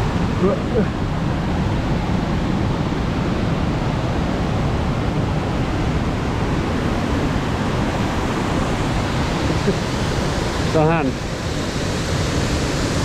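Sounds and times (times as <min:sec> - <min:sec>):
river rushing through rapids: 0:00.0 - 0:13.0.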